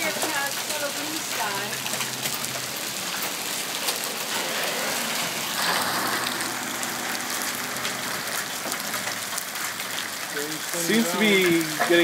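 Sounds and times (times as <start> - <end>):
raindrops ticking on hard surfaces: 0.0 - 12.0
steady rain falling: 0.0 - 12.0.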